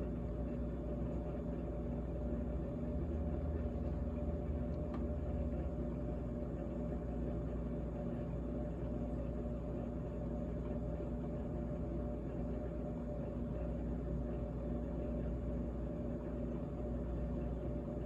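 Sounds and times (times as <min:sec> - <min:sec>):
refrigerator compressor humming: 0:00.0 - 0:18.0.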